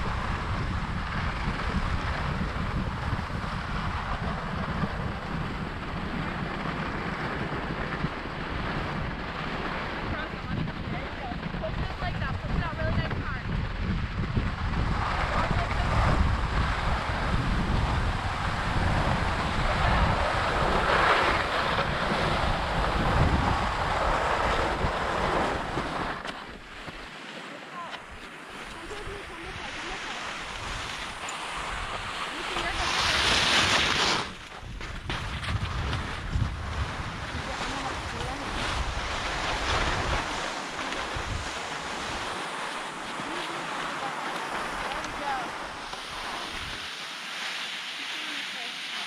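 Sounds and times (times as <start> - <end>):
wind buffeting microphone: 0.0 - 27.2, 27.8 - 47.1
skis sliding on snow: 0.0 - 49.0.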